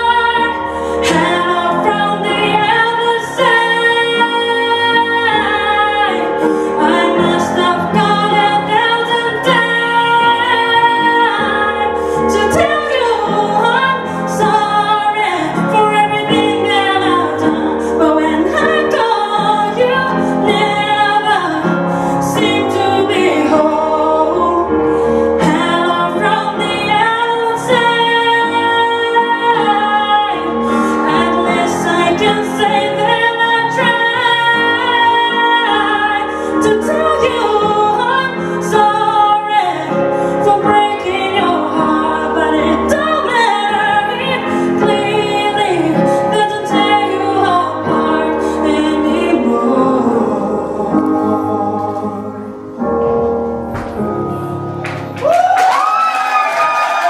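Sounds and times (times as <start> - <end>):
woman singing with music: 0.0 - 56.1.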